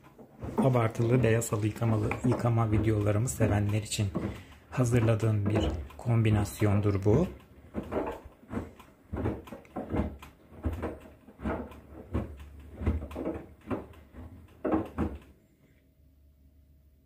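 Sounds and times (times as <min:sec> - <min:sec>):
washing machine drum tumbling: 0:00.0 - 0:15.4.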